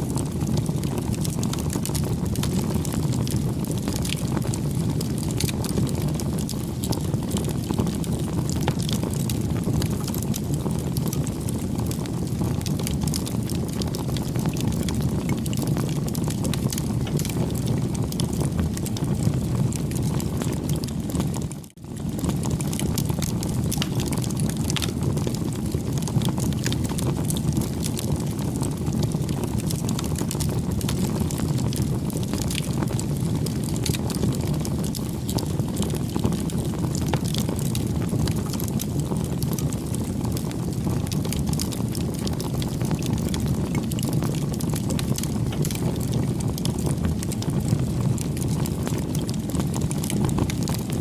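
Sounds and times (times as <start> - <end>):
campfire flames rushing: 0.0 - 51.0
fire crackles and pops: 0.0 - 51.0.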